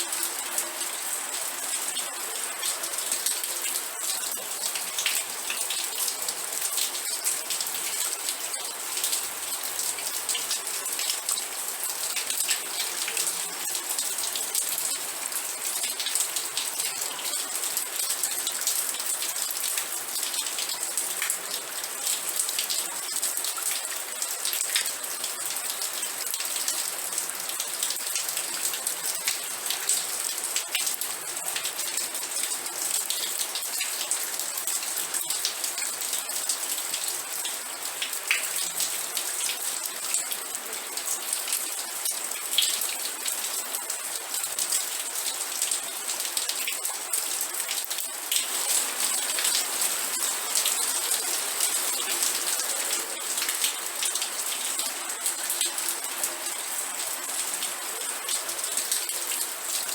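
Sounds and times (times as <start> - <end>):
raindrops ticking on a surface: 0.1 - 59.9.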